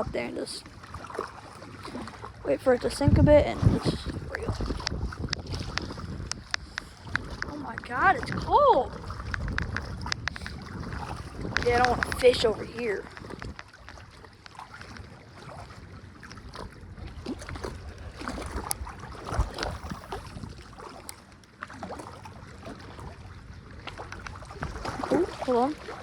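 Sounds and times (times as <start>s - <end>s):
water lapping around boat: 0.0s - 26.0s
wind: 0.0s - 26.0s.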